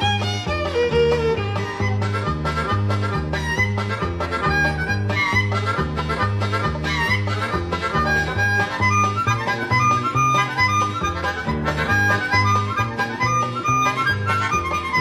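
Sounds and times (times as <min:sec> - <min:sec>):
bouncing bass line: 0:00.0 - 0:15.0
harmonica lead: 0:00.0 - 0:15.0.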